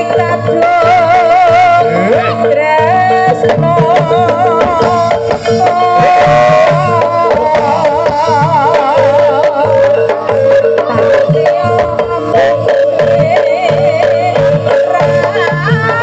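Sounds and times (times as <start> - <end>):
hand drums beating: 0.0 - 16.0
steady held tone: 0.0 - 16.0
wavering vibrato melody: 0.0 - 16.0.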